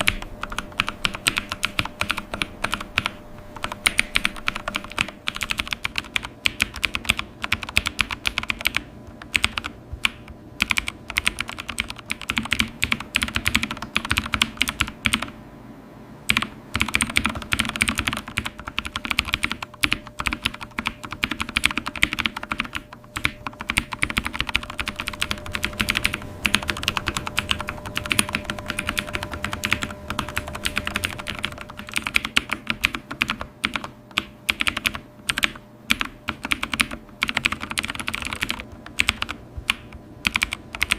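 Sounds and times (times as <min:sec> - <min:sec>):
keyboard typing clicks: 0:00.0 - 0:15.4, 0:16.3 - 0:40.9.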